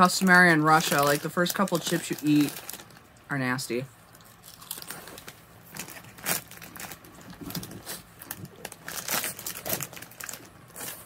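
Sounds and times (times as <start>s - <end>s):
chip bag crinkling: 0.0s - 3.2s, 4.1s - 11.0s.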